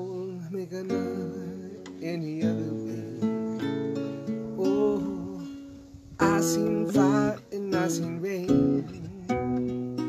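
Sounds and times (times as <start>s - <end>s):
man singing: 0.0s - 3.7s, 4.3s - 10.0s
acoustic guitar strumming: 0.0s - 10.0s.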